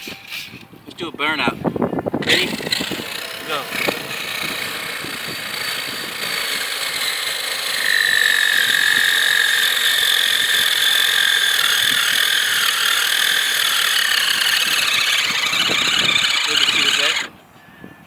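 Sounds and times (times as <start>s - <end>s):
electric motor and gears whining: 2.2s - 17.3s.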